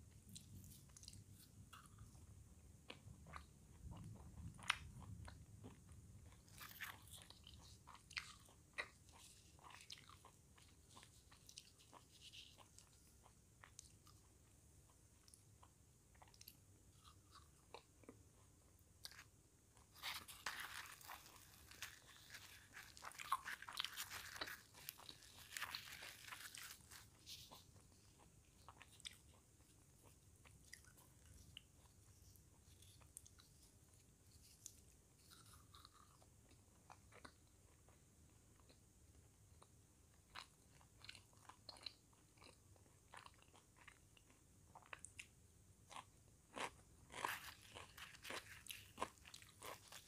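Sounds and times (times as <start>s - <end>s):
chewing crisp fried bread: 0.0s - 50.0s.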